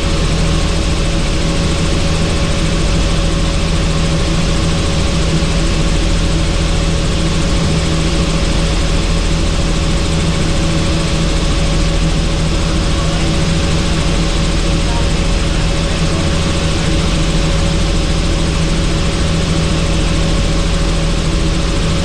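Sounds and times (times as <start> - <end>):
helicopter rotor and turbine drone: 0.0 - 22.0.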